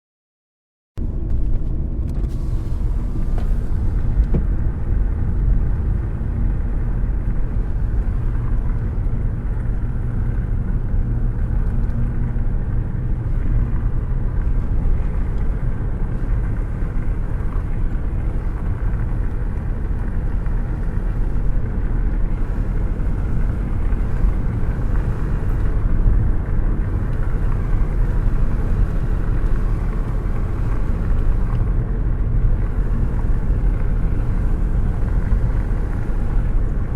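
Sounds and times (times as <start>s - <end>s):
road noise: 1.0s - 36.9s.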